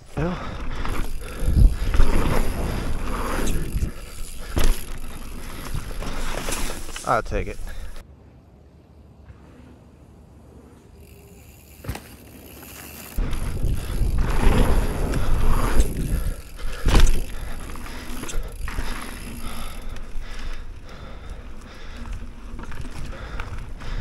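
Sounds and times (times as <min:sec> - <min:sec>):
bike tyre rolling noise: 0:00.0 - 0:08.0, 0:09.2 - 0:24.0.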